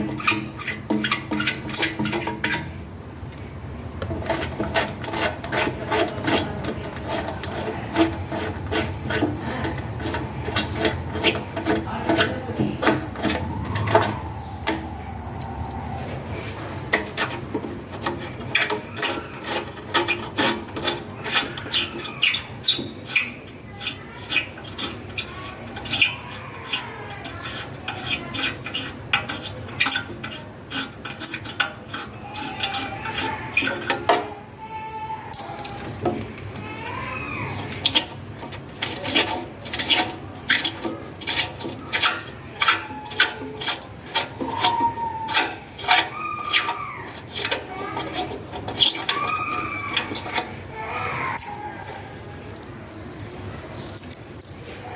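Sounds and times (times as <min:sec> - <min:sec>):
scrubbing a small part: 0:00.0 - 0:54.9.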